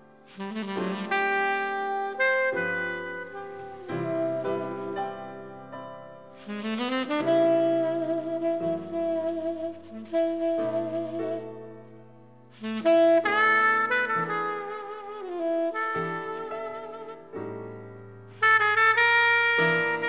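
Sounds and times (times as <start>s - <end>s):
soft accompaniment: 0.0s - 20.0s
tenor saxophone jazz ballad: 0.0s - 20.0s.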